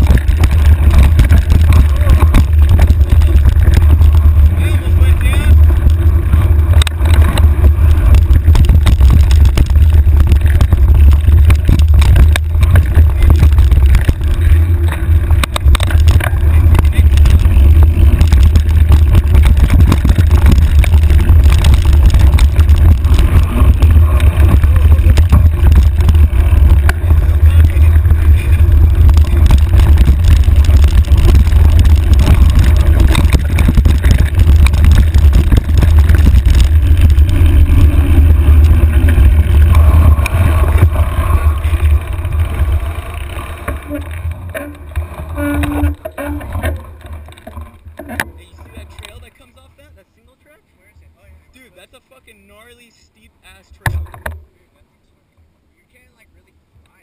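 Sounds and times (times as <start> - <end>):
wind buffeting microphone: 0.0 - 49.2
bike rattling over rough ground: 0.0 - 52.9.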